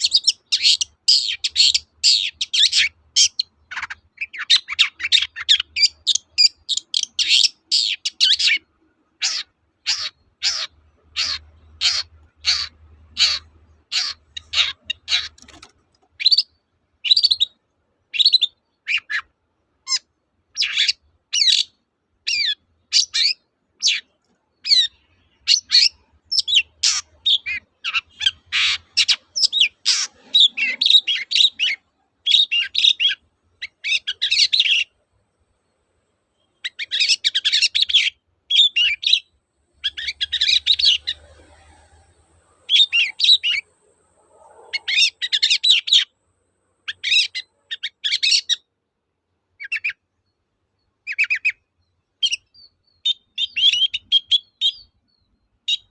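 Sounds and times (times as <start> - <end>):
bird chirping in bursts: 0.0 - 48.8, 49.5 - 55.9.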